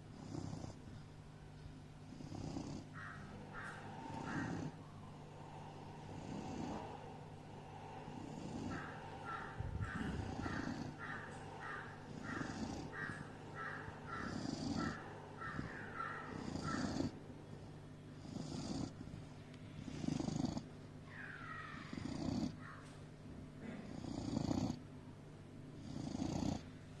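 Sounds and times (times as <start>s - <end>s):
dog snoring: 0.0s - 1.0s, 2.1s - 19.2s, 19.8s - 22.8s, 23.6s - 24.8s, 25.8s - 26.7s.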